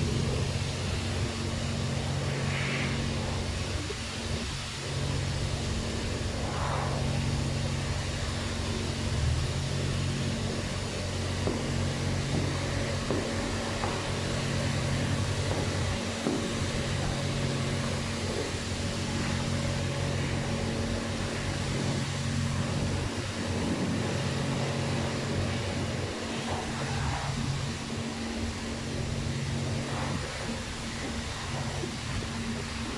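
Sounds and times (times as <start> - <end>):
air conditioning fan: 0.0 - 32.9.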